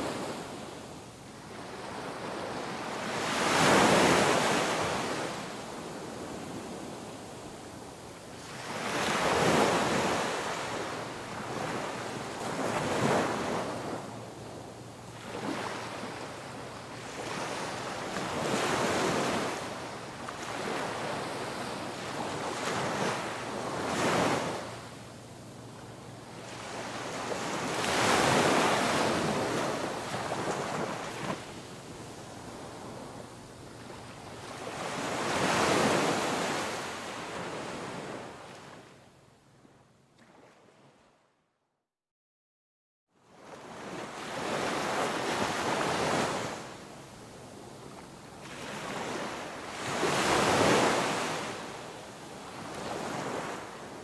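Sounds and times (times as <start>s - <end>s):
ocean waves washing ashore: 0.0s - 39.0s, 43.3s - 54.0s.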